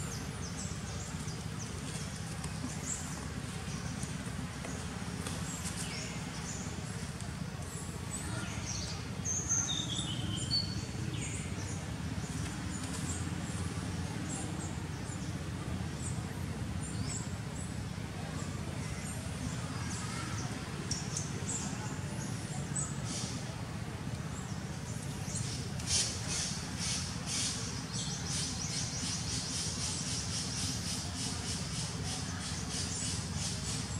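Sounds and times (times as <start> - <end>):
low outdoor rumble: 0.0 - 33.9.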